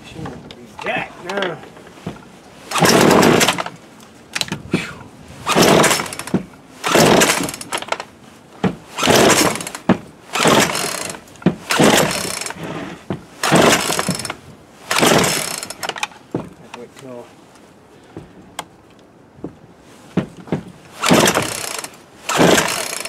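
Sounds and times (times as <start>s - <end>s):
chainsaw recoil cord yanks: 0.2s - 17.0s, 20.2s - 23.0s.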